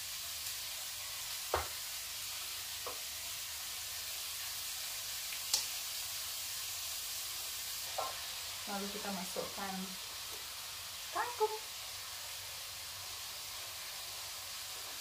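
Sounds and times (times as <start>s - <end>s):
vegetables sizzling in oil in a wok: 0.0s - 15.0s.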